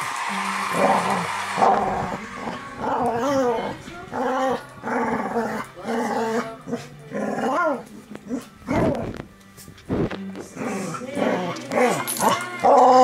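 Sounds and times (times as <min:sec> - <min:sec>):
puppy growling: 0:00.7 - 0:09.3, 0:10.4 - 0:13.0.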